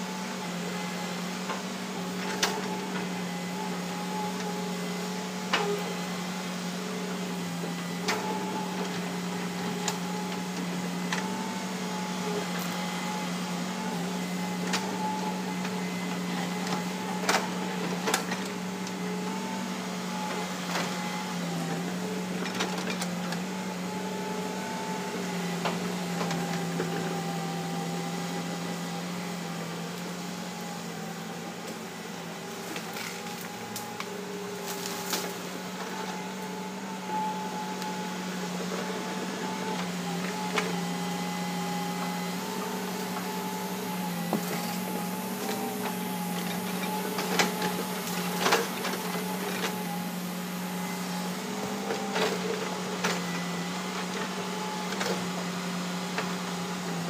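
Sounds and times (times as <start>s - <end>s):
excavator diesel engine and hydraulics: 0.0s - 57.0s.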